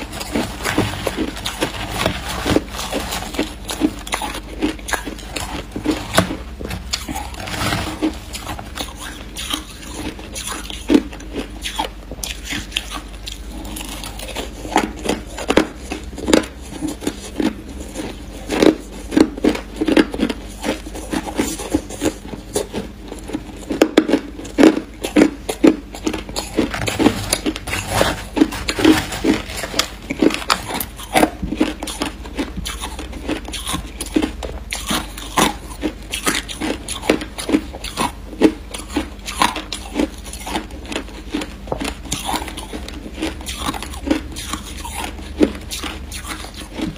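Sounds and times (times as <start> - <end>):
crunching ice being chewed: 0.0 - 46.9.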